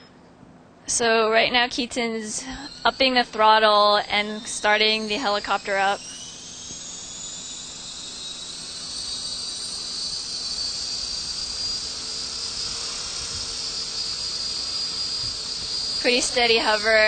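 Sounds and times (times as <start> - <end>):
model helicopter motor whine: 0.9 - 17.0.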